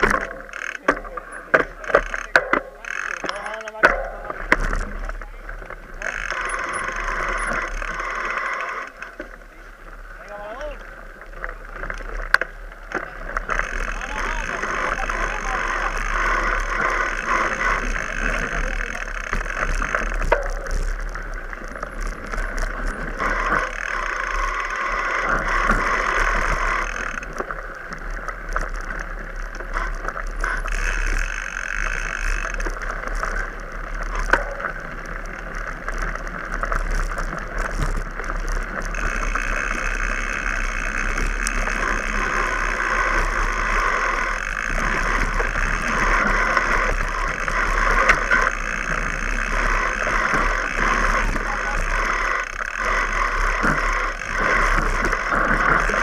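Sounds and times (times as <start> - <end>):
bike rattling and clicking: 0.0 - 56.0
bike tyres rolling over rough ground: 0.0 - 56.0.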